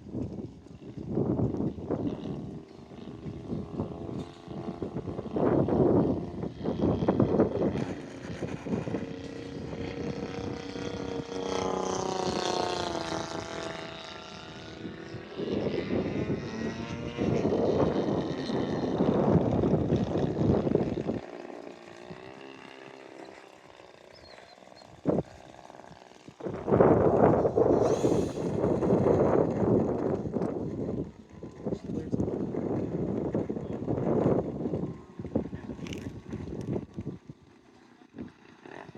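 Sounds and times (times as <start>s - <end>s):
model airplane motor droning: 0.0s - 38.9s.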